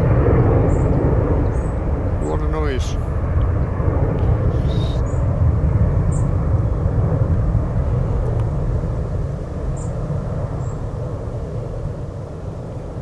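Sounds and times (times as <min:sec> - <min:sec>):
aircraft engines rumbling overhead: 0:00.0 - 0:13.0.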